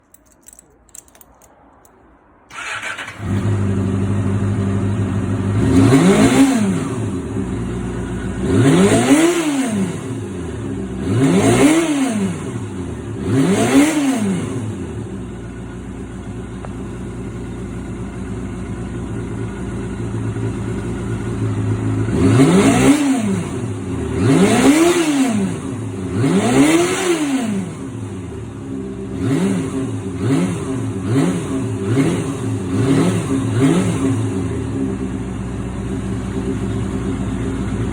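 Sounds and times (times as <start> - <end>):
motorcycle engine starting and idling: 0.1 - 37.9
motorcycle engine revving: 2.5 - 37.9.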